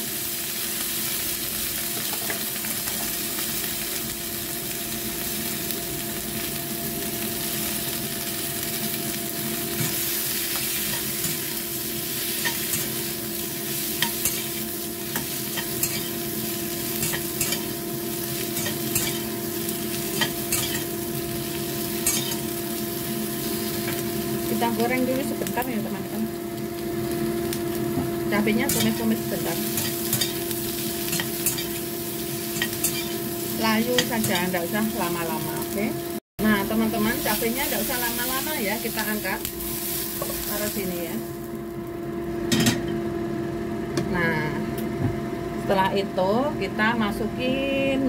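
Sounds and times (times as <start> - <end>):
peppers sizzling in hot oil: 0.0 - 43.6.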